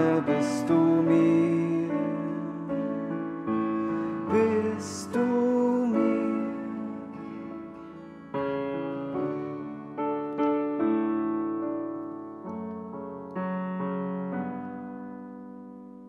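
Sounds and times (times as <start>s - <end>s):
digital piano chords: 0.0s - 16.0s.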